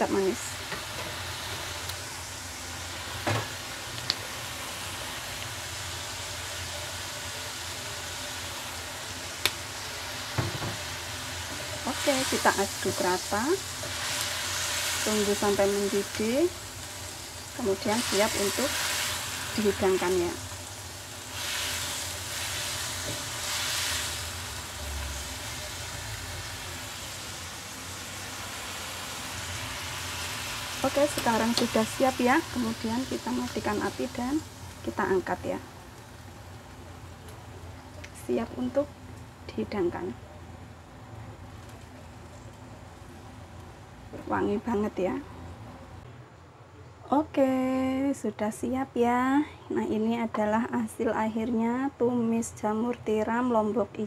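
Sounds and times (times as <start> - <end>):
food sizzling in a wok: 0.0 - 45.3.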